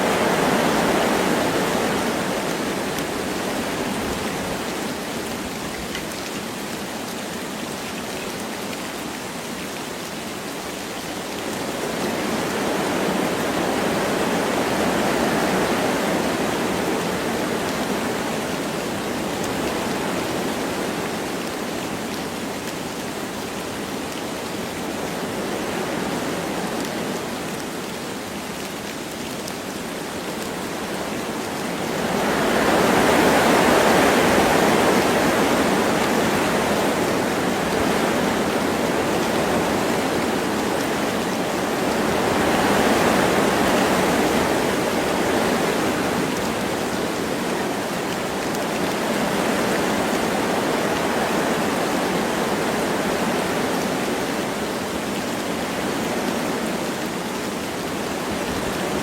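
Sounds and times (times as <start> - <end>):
light rain falling: 0.0 - 59.0
wind through trees: 0.0 - 59.0.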